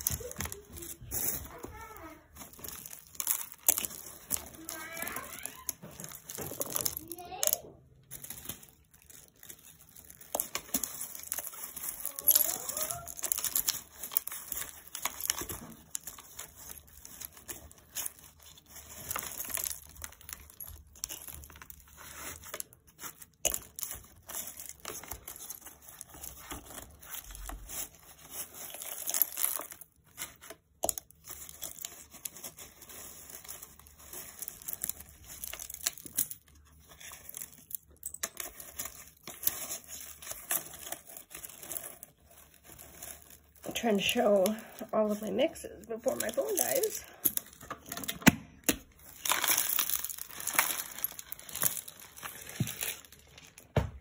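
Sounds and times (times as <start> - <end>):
paper crinkling and rustling: 0.0 - 54.0.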